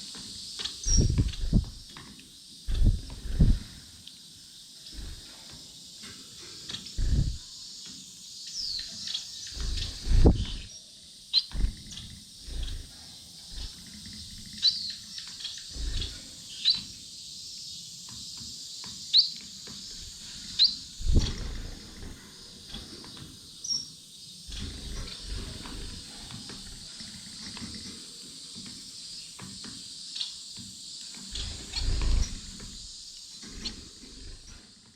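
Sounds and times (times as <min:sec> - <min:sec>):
birds moving thumps and rustles: 0:00.0 - 0:34.9
finches chirping: 0:00.0 - 0:34.9
high bird chatter: 0:00.0 - 0:34.9.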